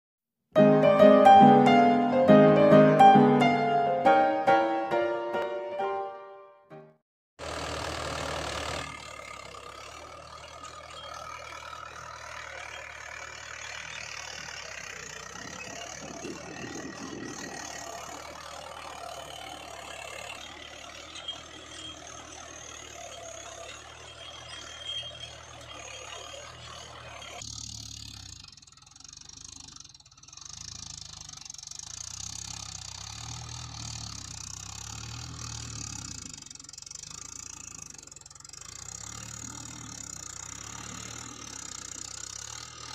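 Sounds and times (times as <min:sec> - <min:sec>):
tractor engine idling: 0:07.4 - 0:42.9.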